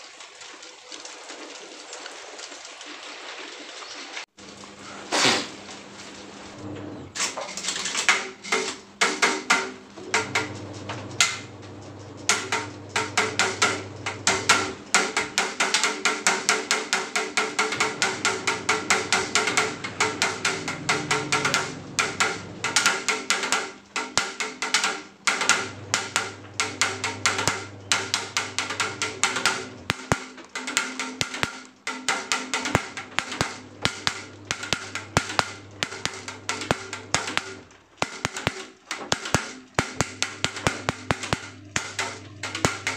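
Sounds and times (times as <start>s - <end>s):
propeller fans clacking: 4.4s - 42.9s.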